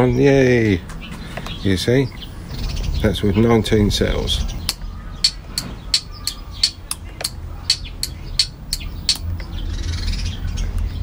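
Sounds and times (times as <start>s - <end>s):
bird calling sharp notes: 0.0s - 10.5s.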